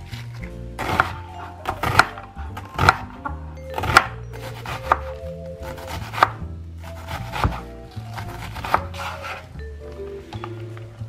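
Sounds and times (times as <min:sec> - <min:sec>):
knife chopping on cutting board: 0:00.1 - 0:09.4.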